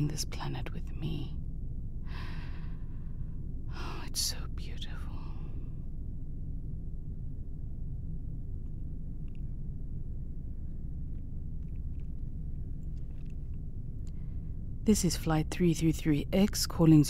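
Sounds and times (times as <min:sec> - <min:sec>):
steady deep rumble: 0:00.0 - 0:17.0.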